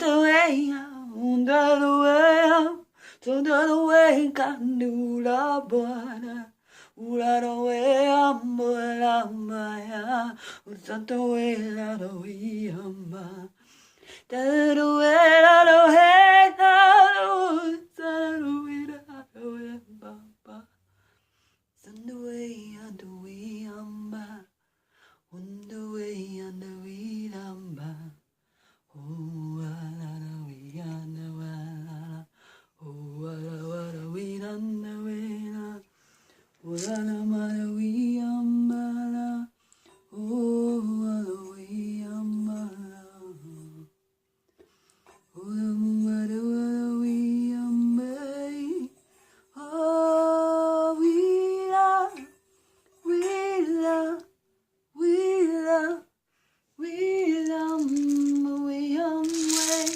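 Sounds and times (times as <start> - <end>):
woman singing unaccompanied: 0.0 - 20.8, 21.8 - 24.6, 25.3 - 28.2, 28.9 - 35.9, 36.6 - 43.9, 45.3 - 52.4, 53.0 - 56.2, 56.8 - 59.9.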